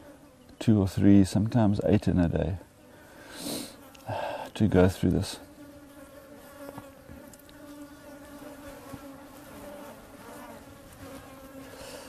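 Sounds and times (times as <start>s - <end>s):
flying insects buzzing: 0.0s - 12.0s.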